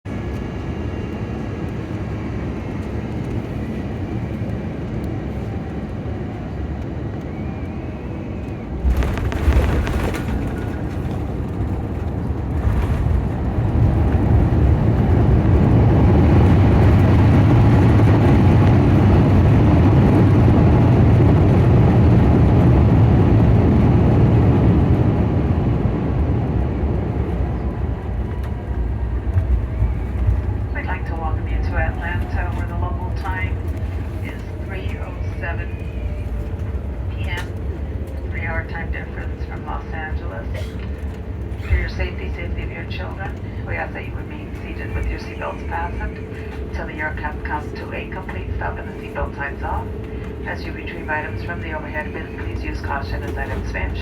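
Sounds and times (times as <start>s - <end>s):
aircraft cabin rumble: 0.1s - 54.0s
jet engine reverse thrust rush: 6.9s - 54.0s.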